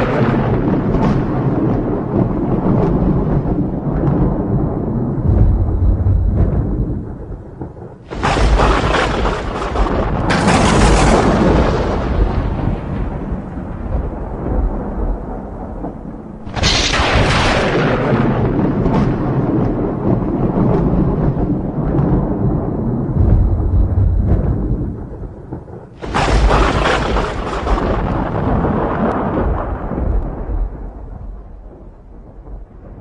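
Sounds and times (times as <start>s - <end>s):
continuous low rumble: 0.0s - 33.0s
thunder cracks and rumble: 0.0s - 33.0s.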